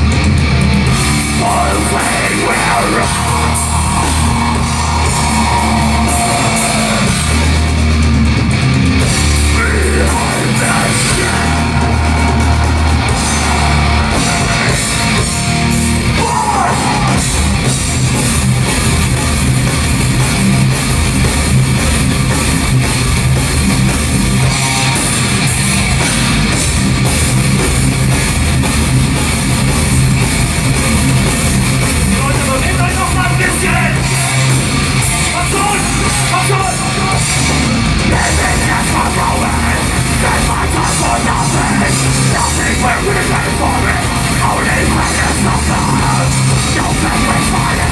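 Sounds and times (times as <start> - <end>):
bass guitar: 0.0 - 47.9
distorted electric guitars: 0.0 - 47.9
drum kit: 0.0 - 47.9.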